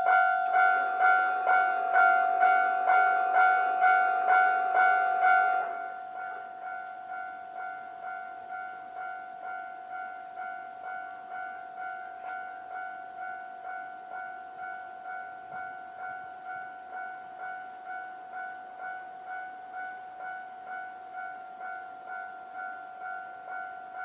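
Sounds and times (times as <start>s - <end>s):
level crossing alarm bell: 0.0s - 24.0s.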